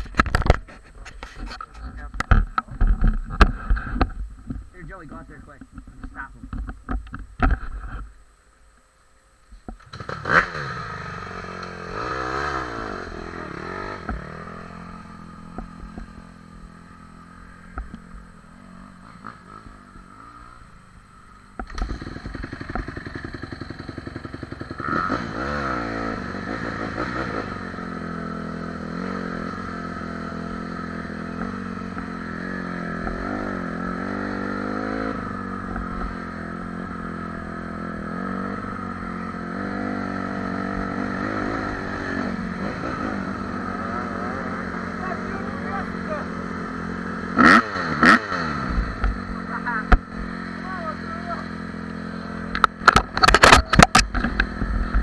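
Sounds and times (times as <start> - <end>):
dirt bike engine revving: 9.8 - 55.0.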